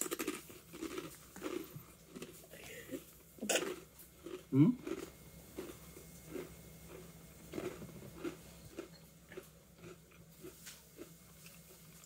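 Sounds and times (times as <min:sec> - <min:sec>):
person chewing crunchy cracker: 0:00.0 - 0:12.0.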